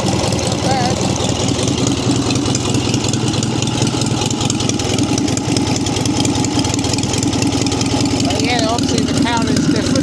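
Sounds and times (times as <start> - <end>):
stationary petrol engine running: 0.0 - 10.0.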